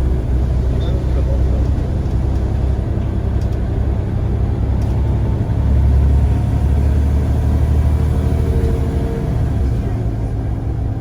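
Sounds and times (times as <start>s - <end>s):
bus engine low rumble: 0.0s - 11.0s.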